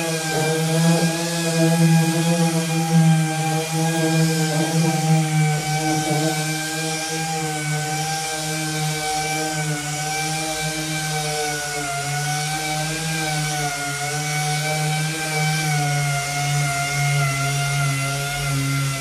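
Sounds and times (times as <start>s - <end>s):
electric sander whining: 0.0s - 19.0s.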